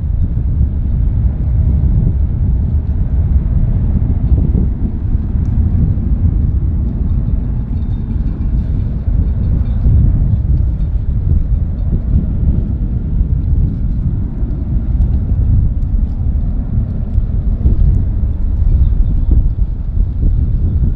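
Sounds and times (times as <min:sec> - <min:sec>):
jet airliner engine rumble: 0:00.0 - 0:20.9
wind buffeting microphone: 0:00.0 - 0:20.9.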